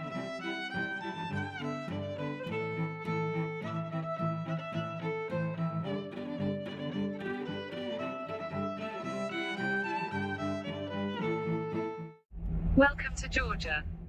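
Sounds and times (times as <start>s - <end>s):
bowed strings music: 0.0s - 12.2s
violin melody: 0.0s - 12.2s.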